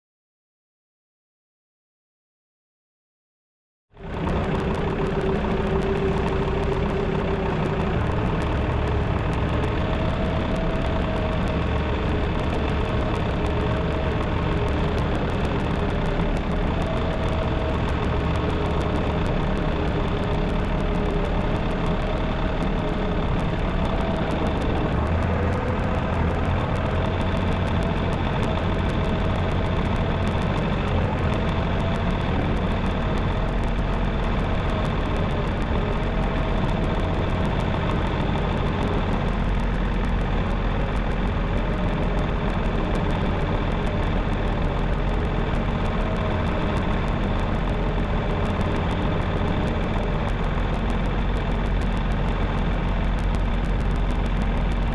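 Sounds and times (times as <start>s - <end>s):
vehicle engine running: 4.0s - 54.9s.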